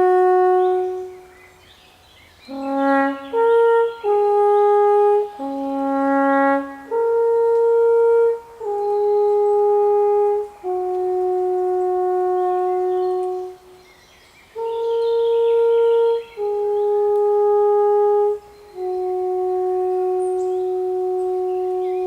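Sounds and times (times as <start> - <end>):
alphorn playing slow melody: 0.0 - 1.4, 2.5 - 13.8, 14.6 - 22.0.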